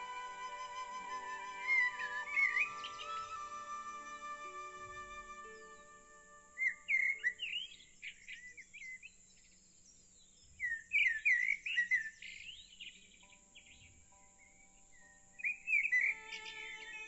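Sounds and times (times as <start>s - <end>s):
soft background music: 0.0s - 9.3s, 10.6s - 17.0s
songbirds chirping and warbling: 0.0s - 17.0s.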